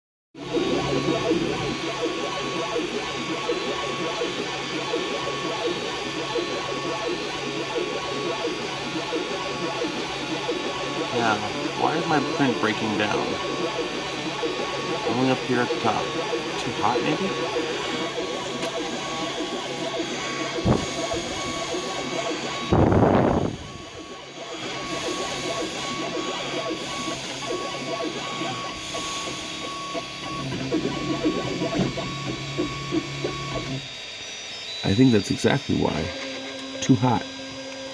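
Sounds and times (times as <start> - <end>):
stepper motors chattering: 0.4 - 33.8
fans whirring: 0.4 - 33.9.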